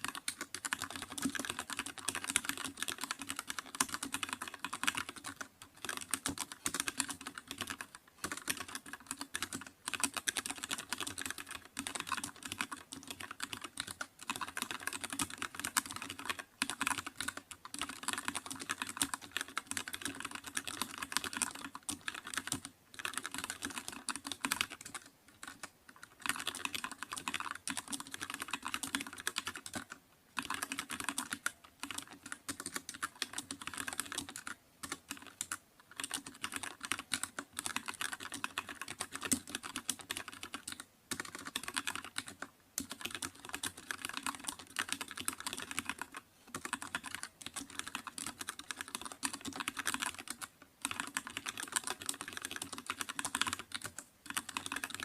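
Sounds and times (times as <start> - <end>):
computer keyboard typing: 0.0 - 55.0.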